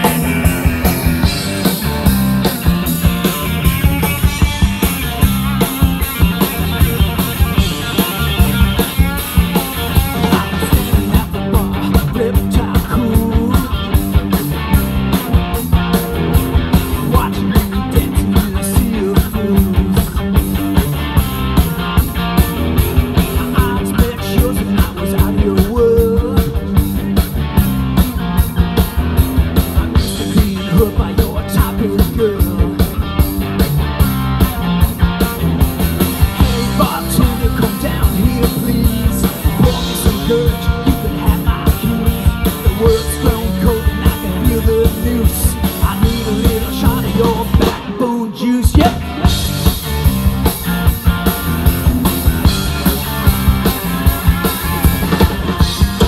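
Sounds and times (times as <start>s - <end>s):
bass guitar: 0.0s - 56.0s
distorted electric guitar: 0.0s - 56.0s
drum kit fast beat: 0.0s - 56.0s.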